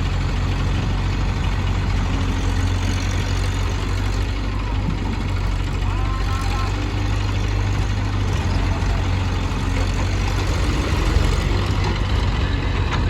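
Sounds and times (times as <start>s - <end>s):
heavy diesel engines running: 0.0s - 13.0s.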